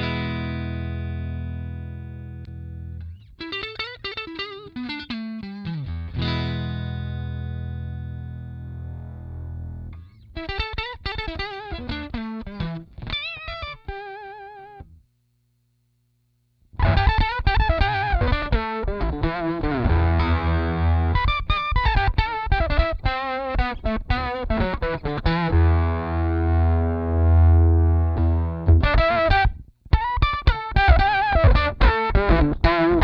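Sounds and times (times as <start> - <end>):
electric guitar with octave effect: 0.0 - 15.0, 16.7 - 33.0.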